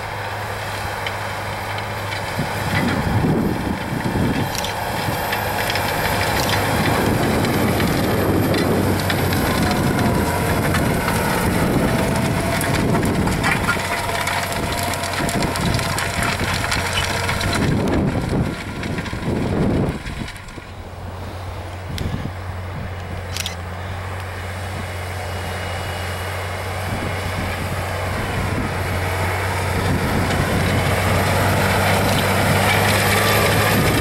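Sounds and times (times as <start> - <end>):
implement crunching and rattling: 0.0 - 34.0
tractor engine under load: 0.0 - 34.0.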